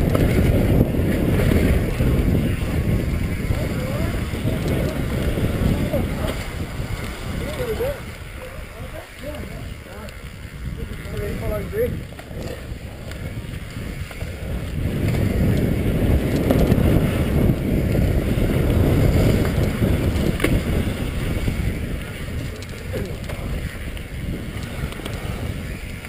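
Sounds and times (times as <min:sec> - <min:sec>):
bike tyre rumble on dirt: 0:00.0 - 0:26.0
wind buffeting microphone: 0:00.0 - 0:26.0.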